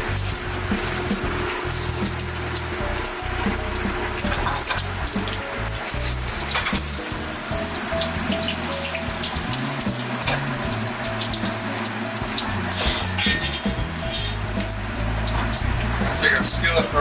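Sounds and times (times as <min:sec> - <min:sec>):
background music: 0:00.0 - 0:17.0
meat sizzling in a skillet: 0:00.0 - 0:17.0.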